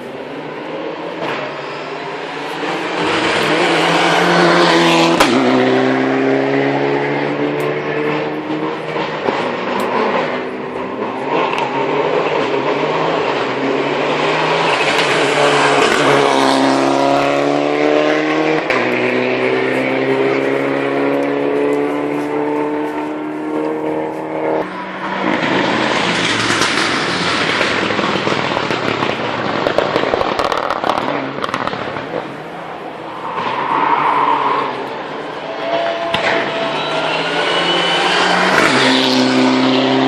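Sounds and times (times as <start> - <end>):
car passing: 0.0 - 40.0
rally car engine revving: 0.0 - 40.0.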